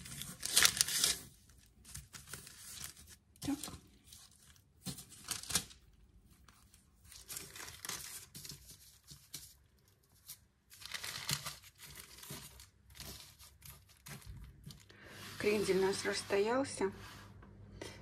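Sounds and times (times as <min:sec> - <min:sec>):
parchment paper crinkling: 0:00.0 - 0:16.3.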